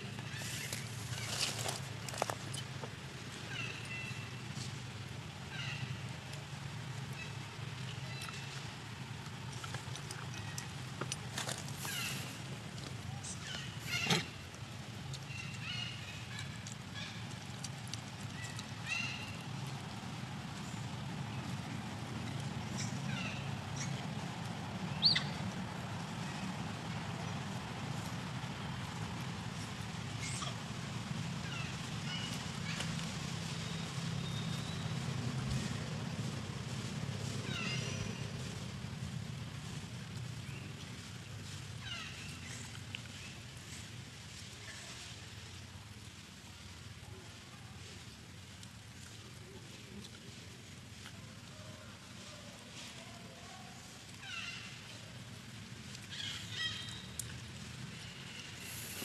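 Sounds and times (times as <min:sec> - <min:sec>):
steady low rumble: 0:00.0 - 0:51.5
low background hum: 0:00.0 - 0:59.0.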